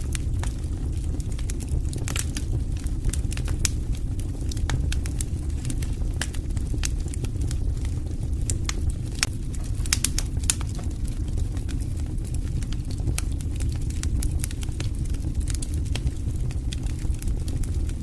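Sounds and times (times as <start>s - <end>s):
burning wood crackling: 0.0s - 18.0s
low rumble of flames: 0.0s - 18.0s.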